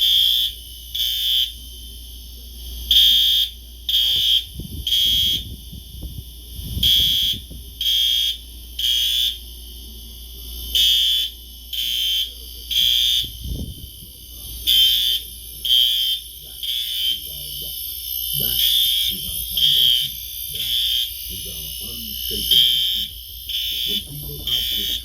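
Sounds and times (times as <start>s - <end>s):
fire alarm beeping: 0.0s - 1.9s, 2.8s - 9.4s, 10.6s - 25.0s.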